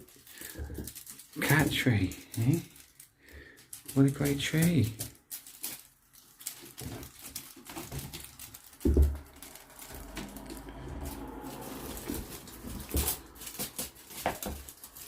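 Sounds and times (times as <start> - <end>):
kittens' claws scrabbling: 0.0 - 15.0.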